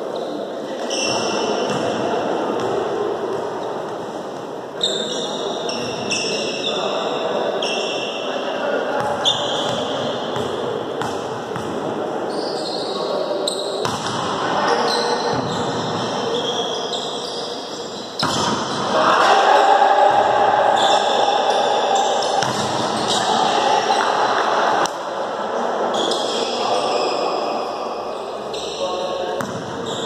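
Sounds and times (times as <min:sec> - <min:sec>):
court noise: 0:00.0 - 0:30.0
players' voices: 0:00.0 - 0:30.0.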